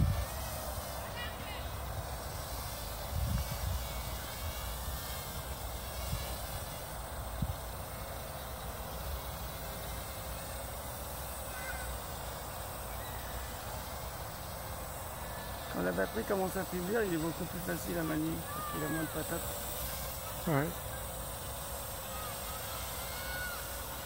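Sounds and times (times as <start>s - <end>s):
quadcopter buzzing: 0.0s - 24.0s.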